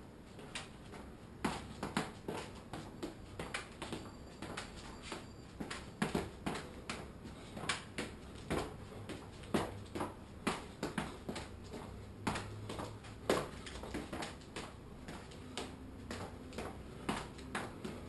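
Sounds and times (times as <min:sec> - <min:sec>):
footsteps and shoe scuffs: 0:00.3 - 0:18.0.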